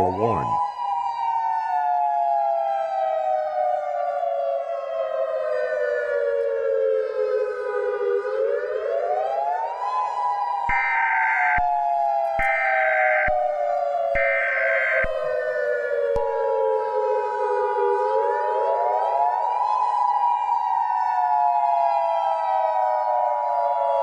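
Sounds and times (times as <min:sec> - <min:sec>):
siren wailing: 0:00.0 - 0:24.0.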